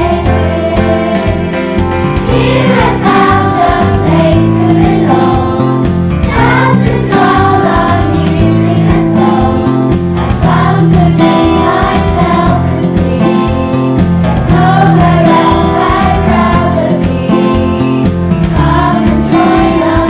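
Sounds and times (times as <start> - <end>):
children's choir singing: 0.0 - 17.8, 18.4 - 20.0
instrumental accompaniment with beat: 0.0 - 20.0.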